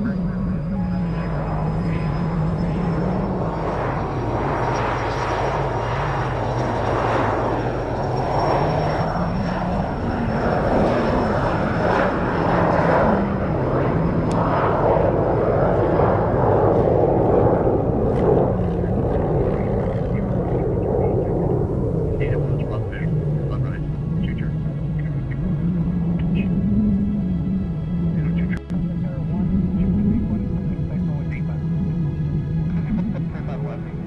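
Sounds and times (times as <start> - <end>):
jet engines whining: 0.0 - 34.0
wind buffeting microphone: 0.0 - 34.0.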